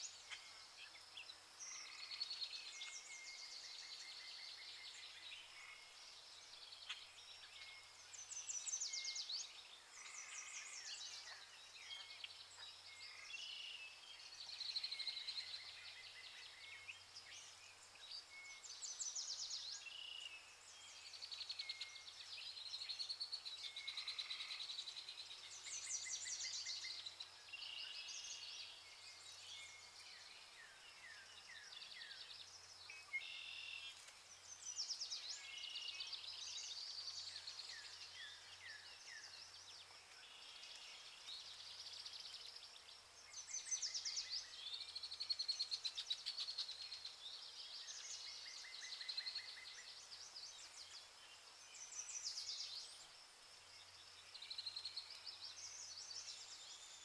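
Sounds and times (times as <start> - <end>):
birds singing and chirping: 0.0 - 57.0
faint steady hiss: 0.0 - 57.0.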